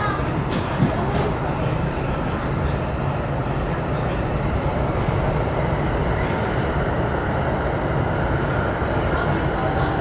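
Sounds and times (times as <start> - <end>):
train rumbling inside passenger car: 0.0 - 10.0.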